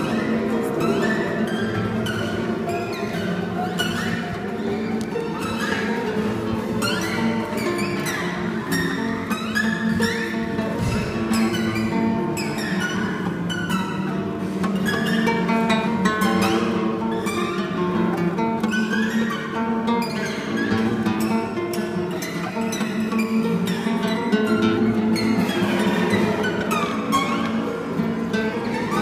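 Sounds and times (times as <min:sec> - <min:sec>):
acoustic guitars playing: 0:00.0 - 0:29.0.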